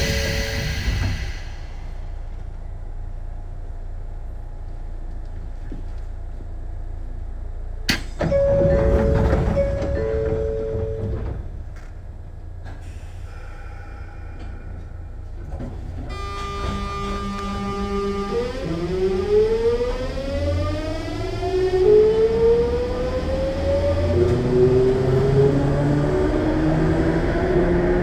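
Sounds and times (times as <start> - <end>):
electric train low rumble: 0.0 - 28.0.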